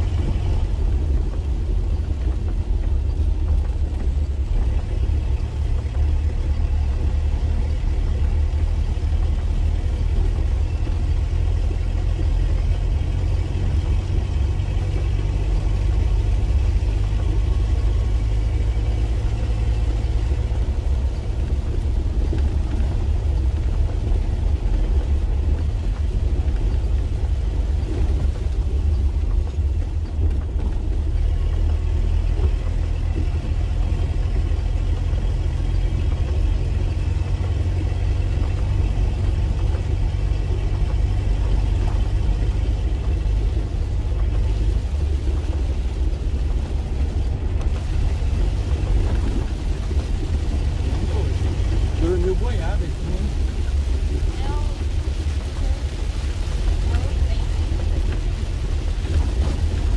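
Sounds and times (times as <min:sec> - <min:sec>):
engine drone: 0:00.0 - 0:59.9
tyre and road noise: 0:00.0 - 0:59.9.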